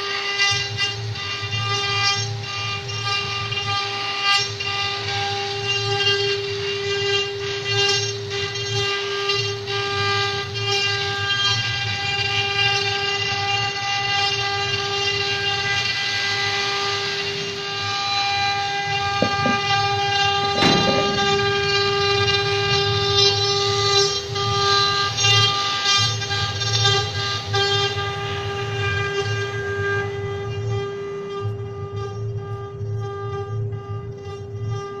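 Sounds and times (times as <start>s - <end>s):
router spindles whining: 0.0s - 35.0s.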